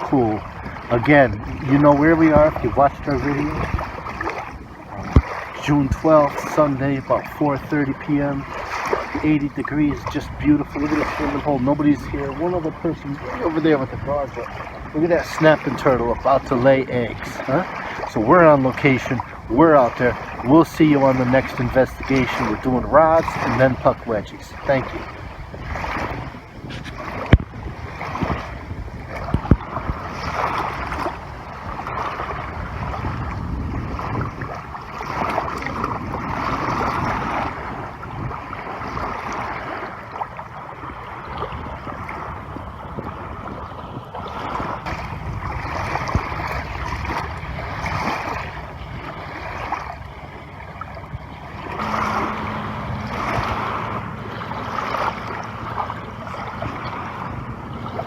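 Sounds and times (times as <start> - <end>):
small waves lapping: 0.0 - 58.0
wind gusting over microphone: 0.0 - 58.0.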